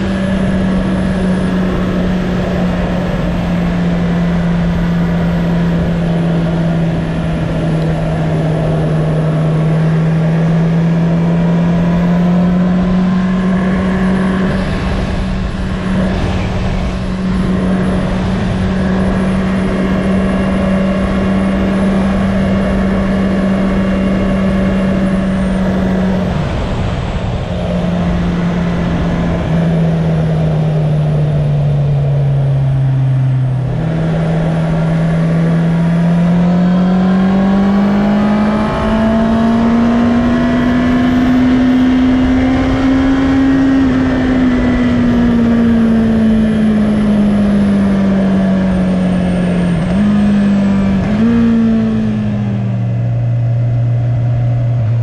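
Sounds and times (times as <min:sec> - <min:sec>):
wind rush: 0:00.0 - 0:53.2
motorcycle engine cruising: 0:00.0 - 0:55.0.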